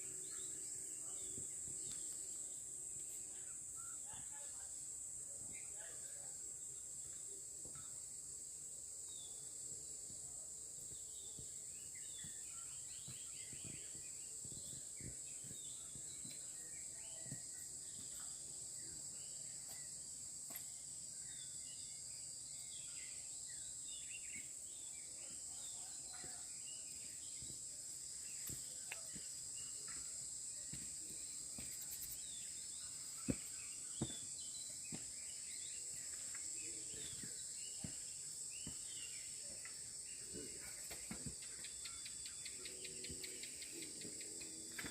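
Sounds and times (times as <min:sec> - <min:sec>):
insects droning: 0:00.0 - 0:44.9
birds chirping: 0:08.8 - 0:44.9.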